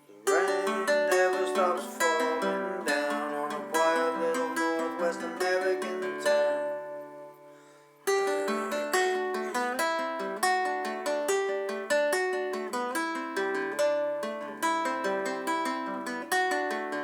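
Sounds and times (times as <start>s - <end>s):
plucked string instrument: 0.0s - 17.0s.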